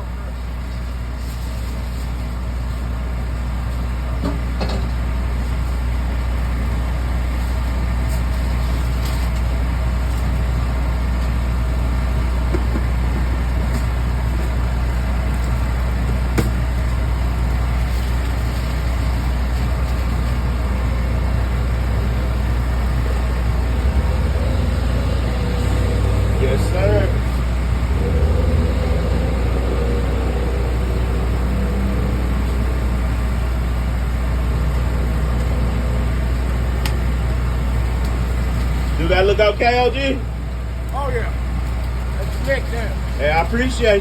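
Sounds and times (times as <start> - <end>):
low mechanical drone: 0.0 - 44.0.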